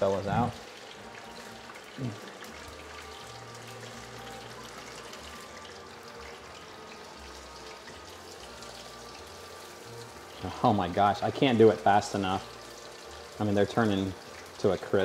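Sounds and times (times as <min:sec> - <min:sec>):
oil hissing and crackling: 0:00.0 - 0:15.0.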